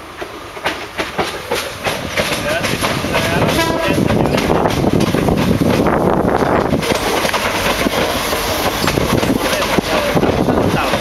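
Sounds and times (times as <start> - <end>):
rail joint clacks: 0.0 - 11.0
train wheels rushing on rail: 0.0 - 11.0.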